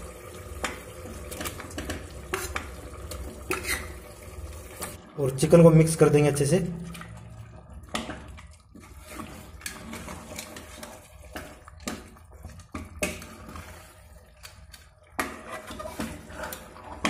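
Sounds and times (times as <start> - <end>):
ladle stirring wet food: 0.0 - 5.2, 6.4 - 17.0.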